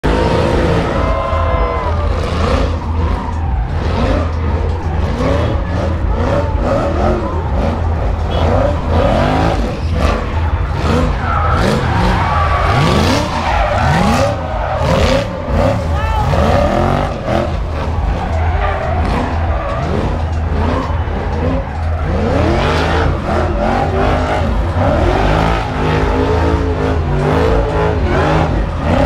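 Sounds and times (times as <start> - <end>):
skidding tyres squealing: 0.0 - 29.0
sports car engine revving: 0.0 - 29.0.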